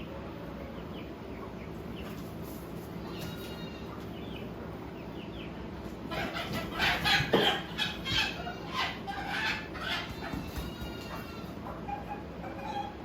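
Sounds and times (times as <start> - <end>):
chicken clucking and cackling: 0.0 - 13.0
steady low hum: 0.0 - 13.0.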